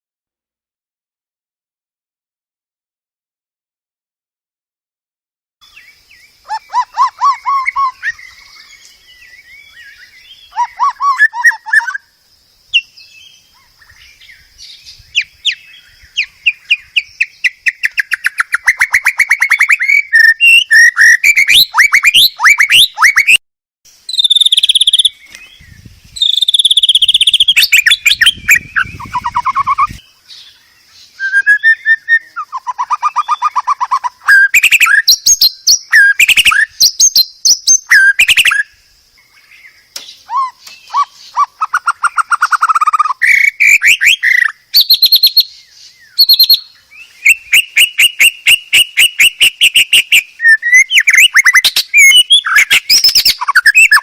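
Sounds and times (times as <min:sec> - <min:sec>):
songbird singing: 0:05.6 - 0:54.0.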